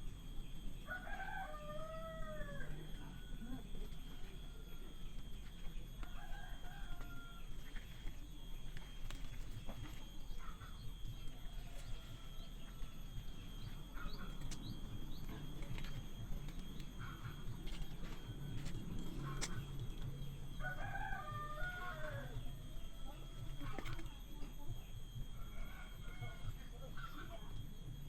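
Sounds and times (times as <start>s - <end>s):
steady high tone: 0.0s - 28.0s
rooster crowing: 0.8s - 24.0s, 25.2s - 27.5s
chickens clucking: 3.8s - 27.4s.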